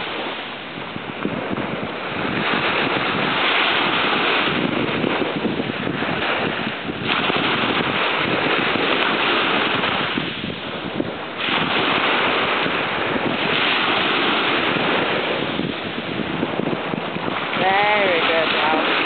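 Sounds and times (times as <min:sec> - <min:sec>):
small waves breaking on beach: 0:00.0 - 0:19.0
wind noise on microphone: 0:00.0 - 0:19.0.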